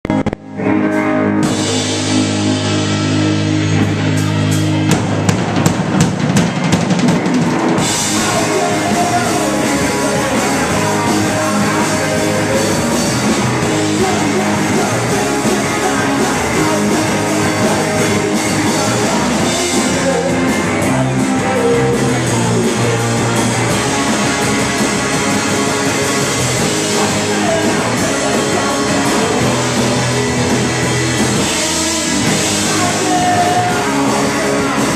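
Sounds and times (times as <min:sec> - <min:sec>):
electric guitars and bass: 0:00.0 - 0:34.9
live rock band with cymbals: 0:00.1 - 0:34.9
rapid drum fill: 0:04.6 - 0:34.9.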